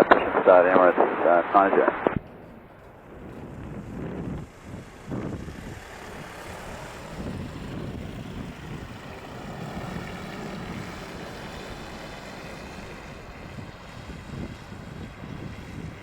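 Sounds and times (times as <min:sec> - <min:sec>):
aircraft engines rumbling: 0:00.0 - 0:16.0
wind buffeting microphone: 0:02.0 - 0:12.1, 0:12.7 - 0:16.0.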